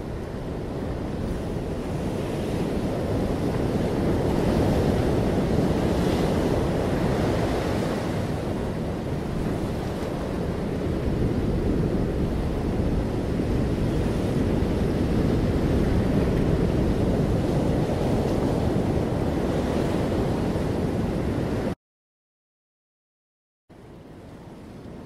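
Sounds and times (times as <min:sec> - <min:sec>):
ocean surf breaking: 0:00.0 - 0:21.8
wind: 0:00.0 - 0:21.8, 0:23.7 - 0:25.0.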